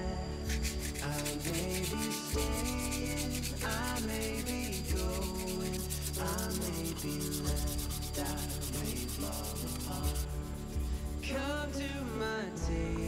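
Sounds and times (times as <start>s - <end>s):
sanding wooden handle: 0.5s - 11.4s.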